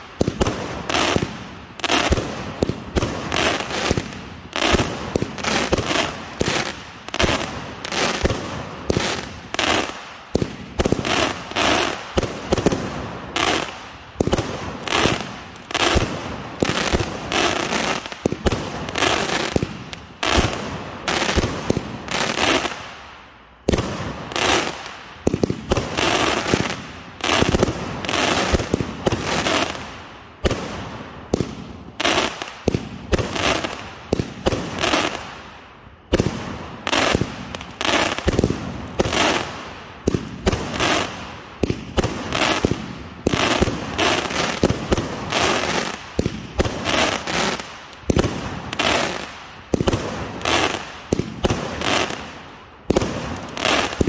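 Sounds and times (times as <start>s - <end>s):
fireworks firing: 0.0s - 54.0s.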